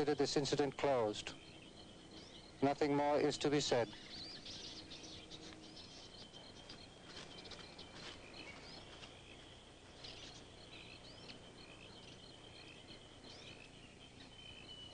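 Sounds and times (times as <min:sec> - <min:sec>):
faint birdsong chirps: 0:00.0 - 0:14.9
low steady hum: 0:00.0 - 0:14.9.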